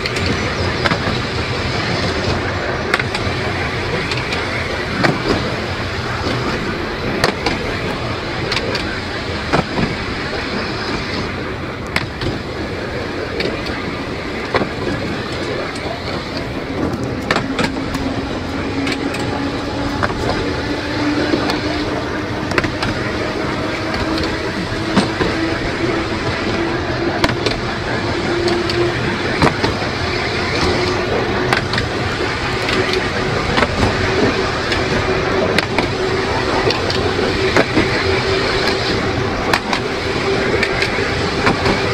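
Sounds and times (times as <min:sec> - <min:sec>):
tram motor whine: 0:00.0 - 0:41.9
tram wheels rumbling: 0:00.0 - 0:41.9
wheels clicking over rail joints: 0:00.0 - 0:41.9.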